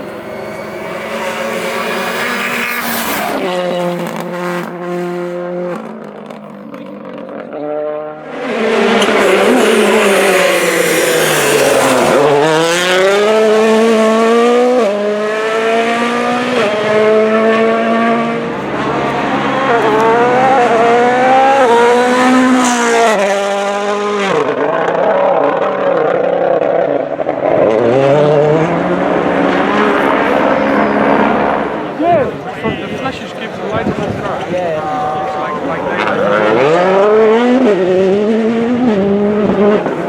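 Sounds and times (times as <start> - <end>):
rally car engine at full throttle: 0.0 - 40.0.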